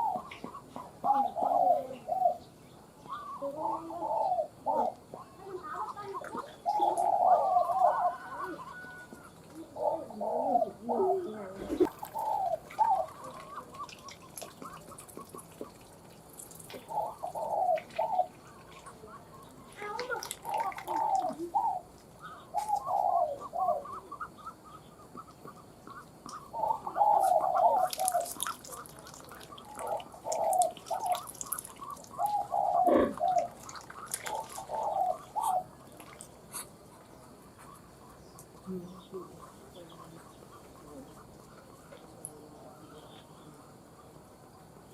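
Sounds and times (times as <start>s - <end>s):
dove cooing: 0.0s - 15.8s, 16.6s - 43.8s.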